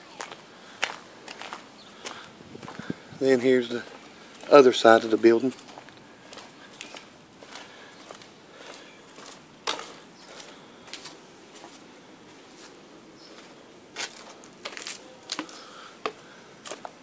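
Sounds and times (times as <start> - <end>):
footsteps on concrete: 0.2 - 17.0.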